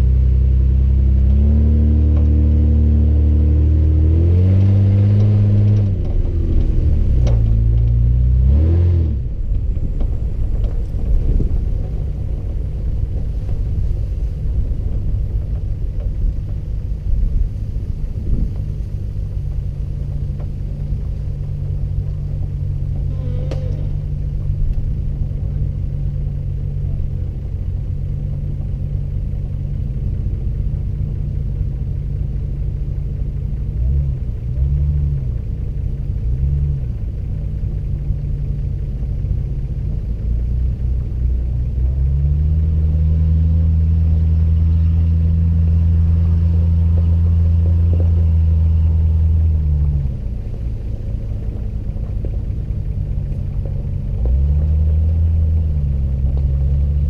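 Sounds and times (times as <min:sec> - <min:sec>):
suv engine rumbling: 0:00.0 - 0:57.0.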